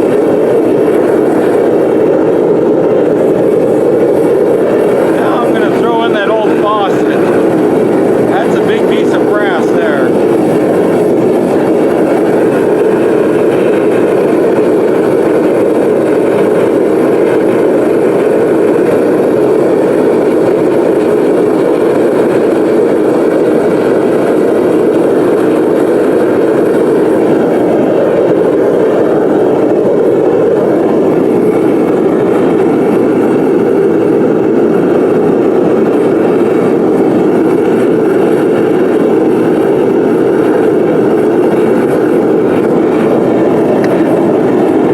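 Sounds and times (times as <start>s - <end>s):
burner flame roaring: 0.0s - 44.9s.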